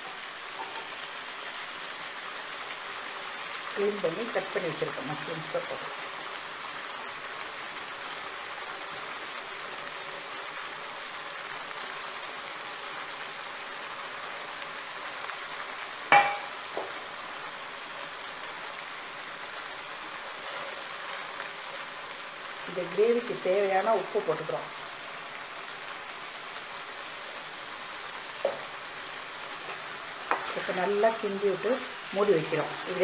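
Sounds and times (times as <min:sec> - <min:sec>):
gravy simmering in a pan: 0:00.0 - 0:31.2.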